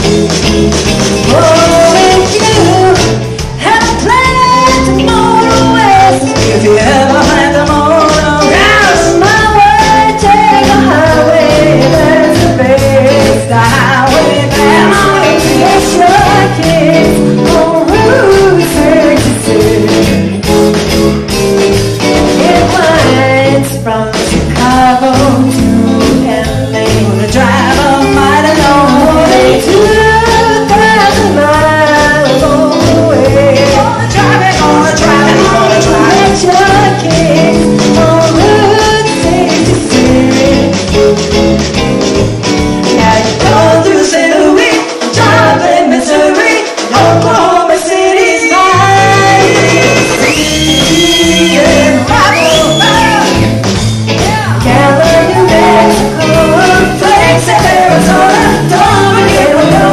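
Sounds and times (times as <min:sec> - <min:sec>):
electric bass: 0:00.0 - 0:44.4, 0:46.9 - 0:59.9
drums: 0:00.0 - 0:59.9
woman singing: 0:01.2 - 0:20.3, 0:22.4 - 0:41.0, 0:42.8 - 0:53.6, 0:54.2 - 0:59.9.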